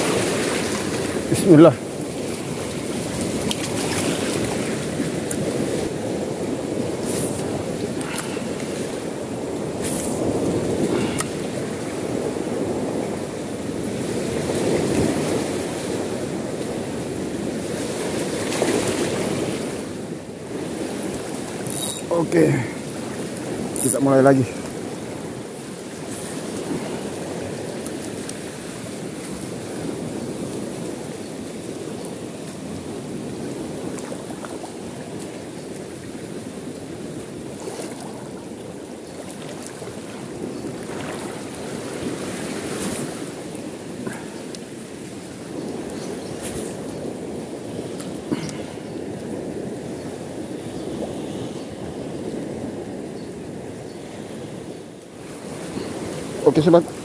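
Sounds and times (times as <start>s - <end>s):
river current rushing: 0.0s - 52.1s, 55.1s - 57.0s.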